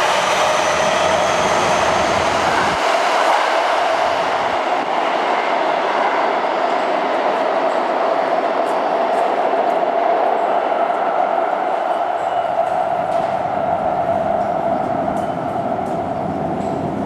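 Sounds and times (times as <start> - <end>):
train rumbling in tunnel: 0.0 - 17.0.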